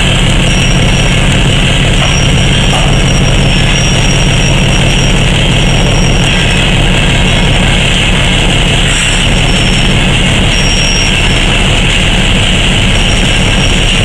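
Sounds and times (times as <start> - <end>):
diesel locomotive running: 0.0 - 14.0
thin high whine: 0.0 - 14.0.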